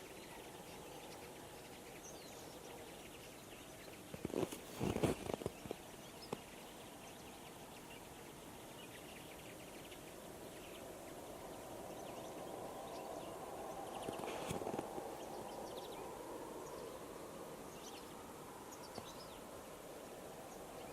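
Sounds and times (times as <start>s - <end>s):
birds twittering: 0.0s - 20.9s.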